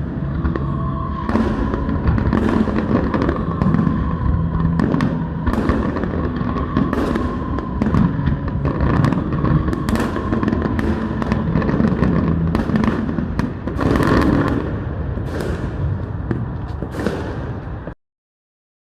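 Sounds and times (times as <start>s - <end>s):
fireworks bangs and crackling: 0.0s - 18.0s
low rumble: 0.0s - 18.0s.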